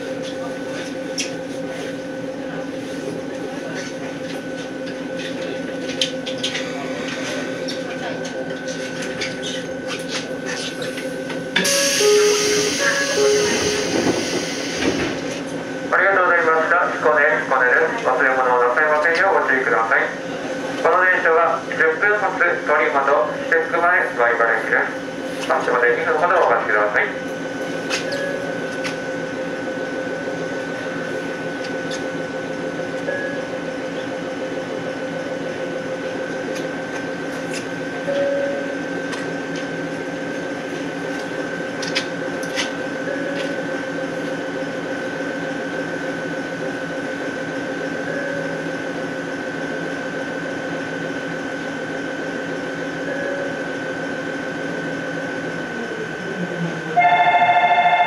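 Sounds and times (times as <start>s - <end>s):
electrical hum and whine: 0.0s - 58.0s.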